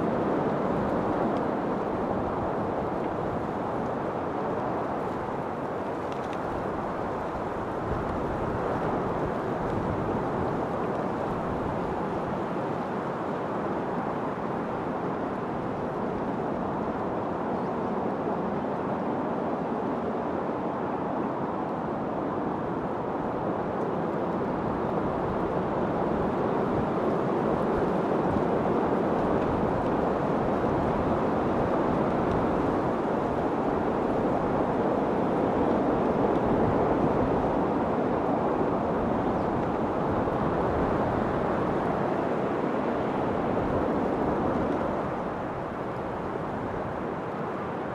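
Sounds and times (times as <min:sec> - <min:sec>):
steady wind: 0:00.0 - 0:47.9.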